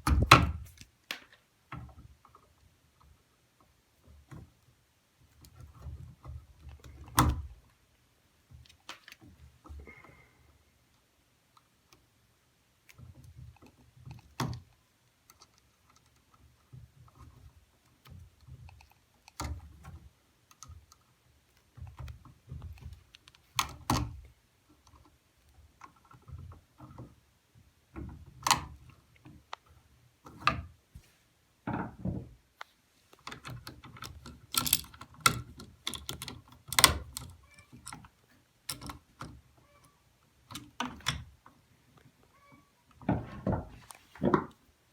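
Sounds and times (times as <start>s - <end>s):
small clicks and rattles: 0.0s - 7.8s, 8.4s - 30.8s, 31.6s - 44.6s.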